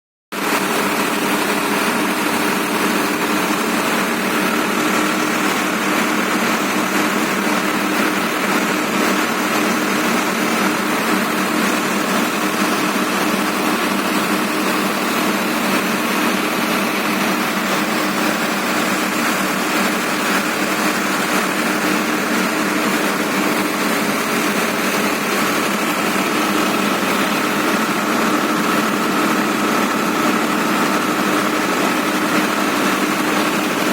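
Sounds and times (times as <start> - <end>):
tractor diesel engine running: 0.4 - 33.9.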